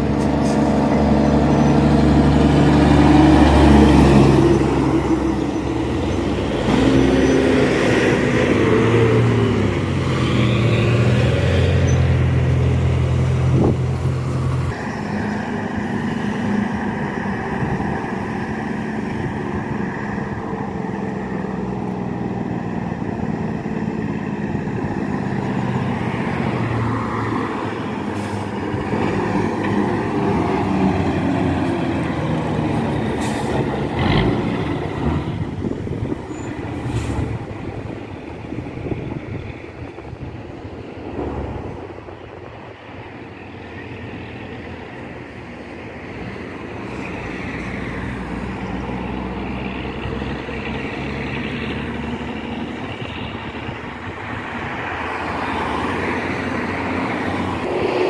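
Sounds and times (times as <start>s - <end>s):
heavy truck engine: 0.0s - 58.0s
traffic passing: 0.0s - 58.0s.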